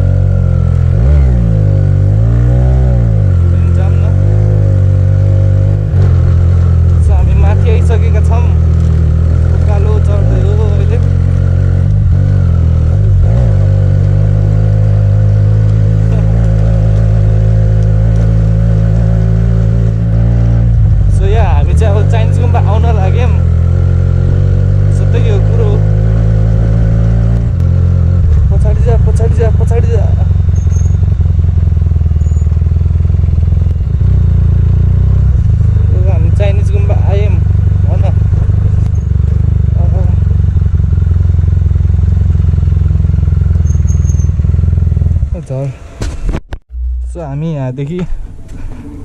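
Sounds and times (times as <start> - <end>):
motorcycle engine at steady revs: 0.0 - 45.7.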